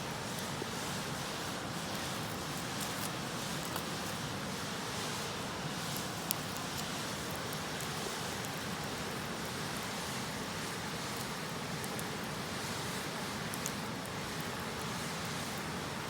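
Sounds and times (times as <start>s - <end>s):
campfire crackling and popping: 0.1s - 16.0s.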